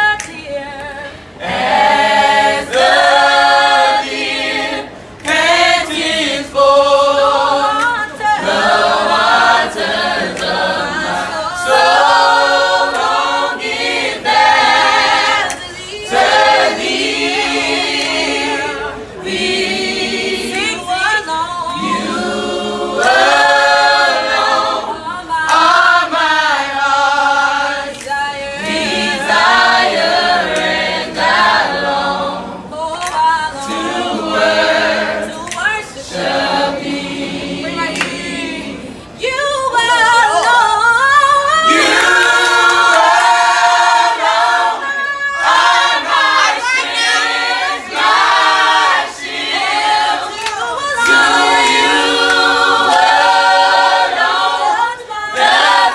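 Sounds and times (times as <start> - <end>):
choir singing a cappella: 0.0 - 55.9.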